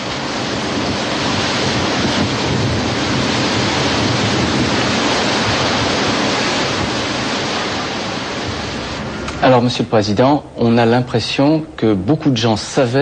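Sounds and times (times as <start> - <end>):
sea surf: 0.0 - 13.0
wind: 0.0 - 13.0.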